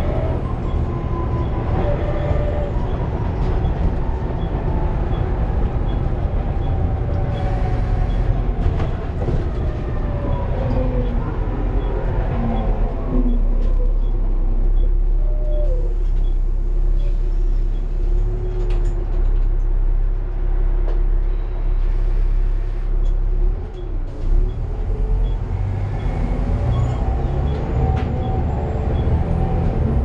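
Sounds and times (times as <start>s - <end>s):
bus engine rumble: 0.0s - 30.0s.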